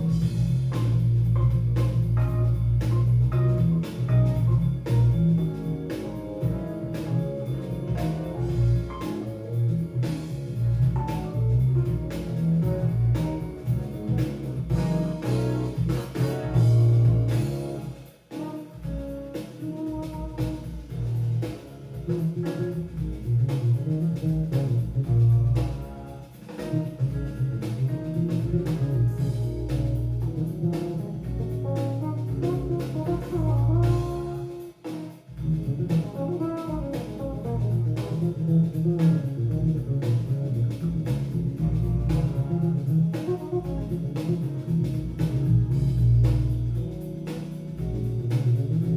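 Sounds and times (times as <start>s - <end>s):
electric bass line: 0.0s - 18.0s, 20.0s - 34.6s, 35.4s - 48.9s
jazz fusion band playing: 0.0s - 48.9s.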